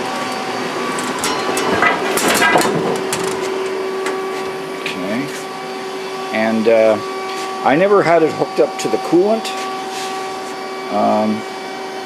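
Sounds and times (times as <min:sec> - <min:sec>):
lathe humming: 0:00.0 - 0:12.0.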